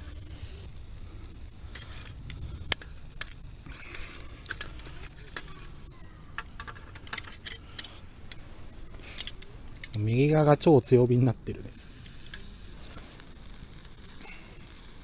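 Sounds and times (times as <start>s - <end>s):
charcoal clicks and crackles: 0.0s - 15.0s.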